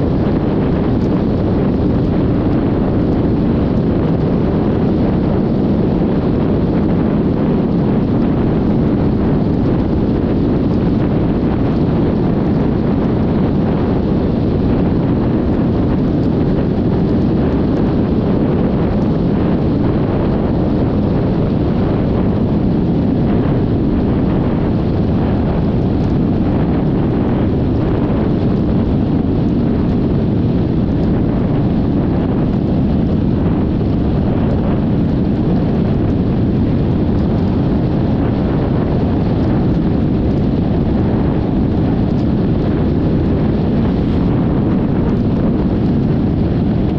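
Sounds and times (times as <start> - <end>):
wind rush on microphone: 0.0 - 46.9.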